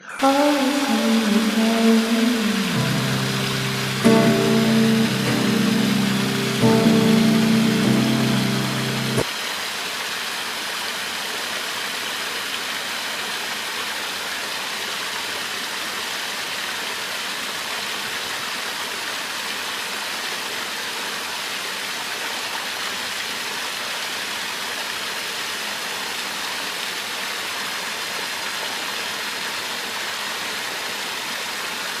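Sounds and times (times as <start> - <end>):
running water rushing: 0.1 - 32.0.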